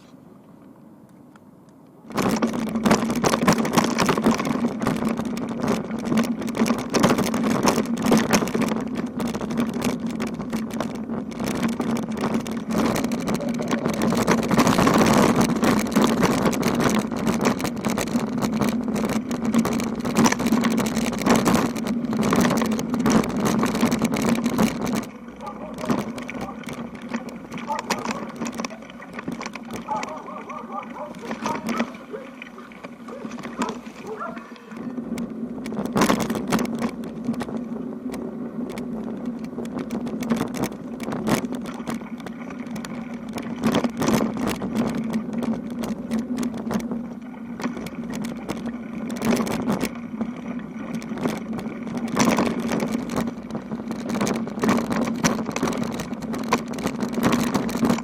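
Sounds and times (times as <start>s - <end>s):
bicycle tyres humming on road: 0.0s - 58.0s
bicycle rattles and knocks: 2.0s - 58.0s.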